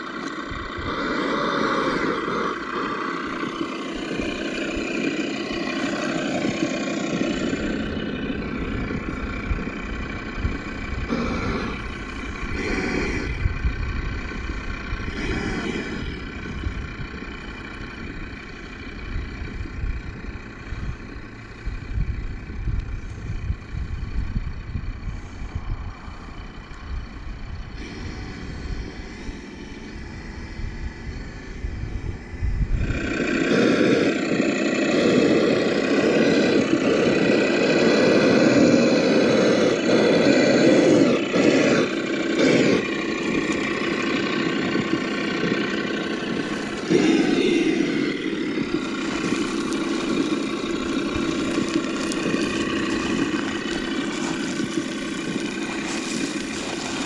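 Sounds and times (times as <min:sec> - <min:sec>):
low rumble: 0:00.0 - 0:57.0
simulated engine sound from speakers: 0:00.0 - 0:57.0.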